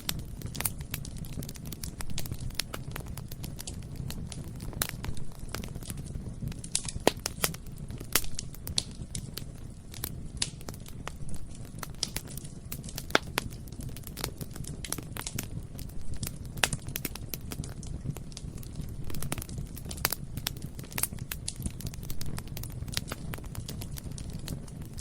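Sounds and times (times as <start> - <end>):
burning wood crackling and popping: 0.0 - 25.0
low rumble of flames: 0.0 - 25.0.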